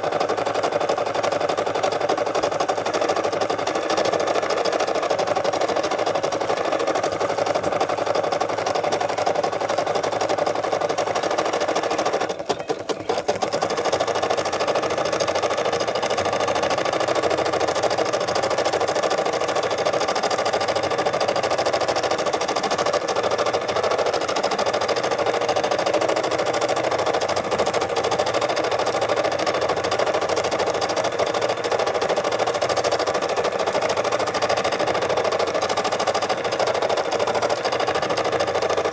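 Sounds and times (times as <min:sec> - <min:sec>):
embroidery machine needle chatter: 0:00.0 - 0:38.9.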